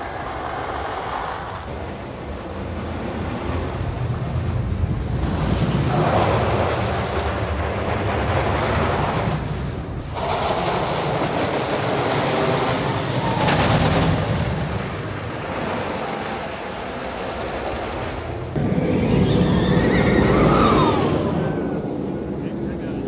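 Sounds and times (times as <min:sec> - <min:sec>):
roller coaster rumbling: 0:00.0 - 0:23.0.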